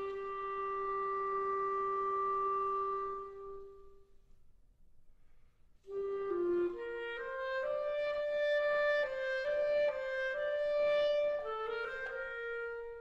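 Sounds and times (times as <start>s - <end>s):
clarinet playing: 0.0s - 4.2s, 5.9s - 13.0s.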